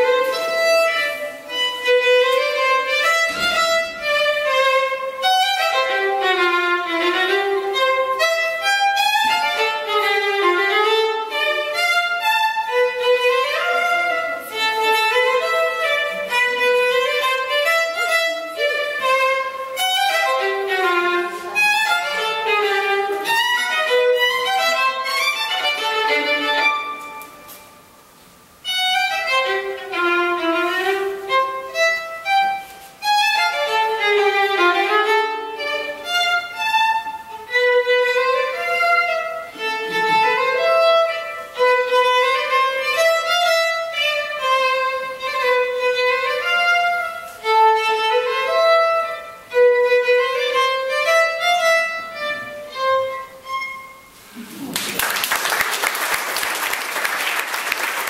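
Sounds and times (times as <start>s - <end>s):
solo violin melody: 0.0s - 54.5s.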